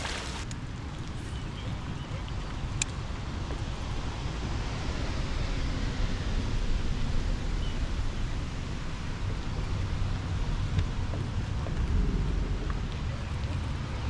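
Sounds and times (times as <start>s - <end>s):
wind buffeting microphone: 1.4s - 14.0s.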